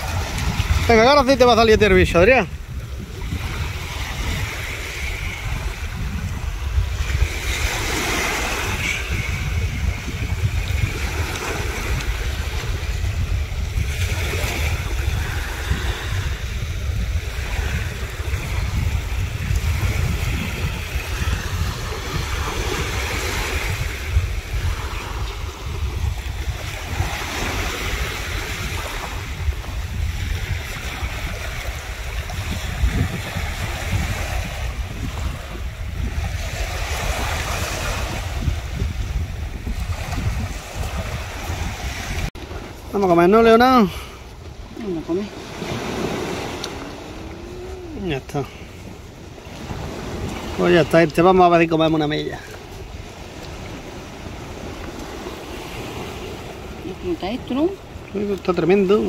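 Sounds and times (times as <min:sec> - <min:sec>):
sea waves breaking on shore: 0:00.0 - 0:59.0
wind buffeting microphone: 0:00.0 - 0:59.0.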